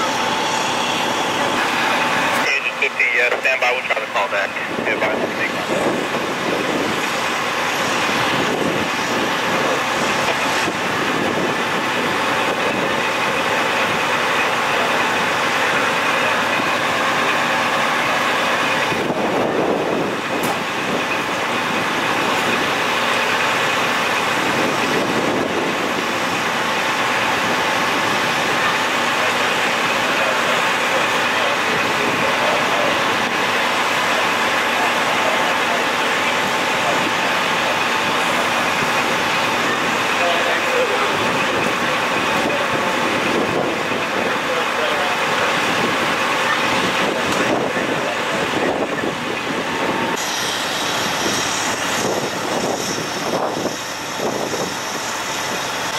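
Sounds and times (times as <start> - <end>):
idling heavy vehicles hum: 0.0 - 55.9.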